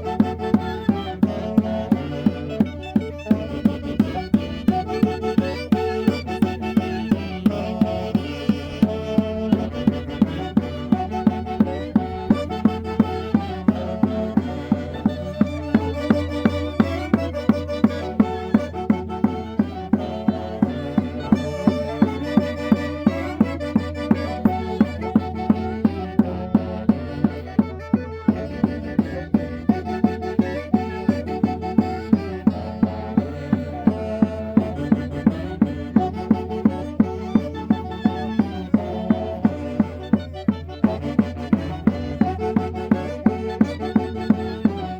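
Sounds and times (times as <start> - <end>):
festival band playing: 0.0 - 44.9
violin melody: 0.0 - 44.9.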